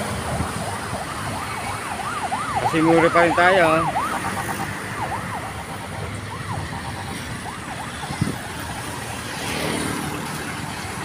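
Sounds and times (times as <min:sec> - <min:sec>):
emergency vehicle siren: 0:00.0 - 0:11.0
road traffic: 0:00.0 - 0:11.0
vehicle passing: 0:01.8 - 0:11.0.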